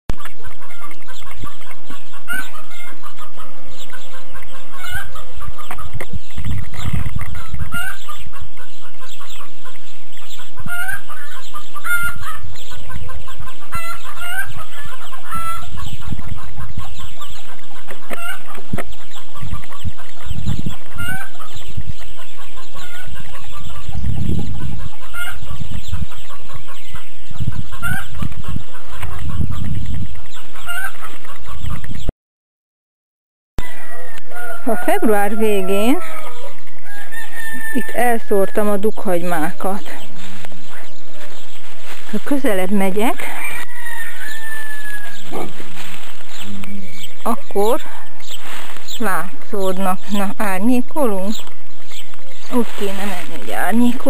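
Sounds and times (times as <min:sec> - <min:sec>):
chickens clucking: 0:00.1 - 0:32.1, 0:33.6 - 0:54.0.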